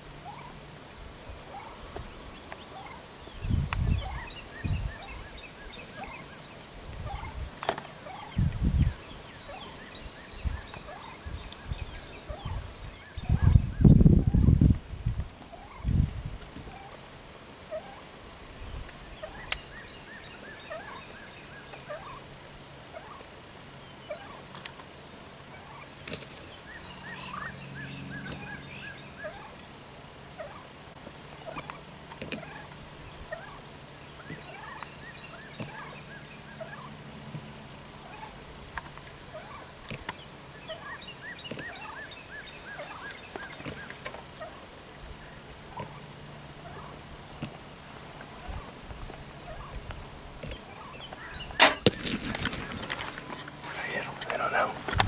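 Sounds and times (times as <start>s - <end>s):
turkeys calling: 0.0s - 55.0s.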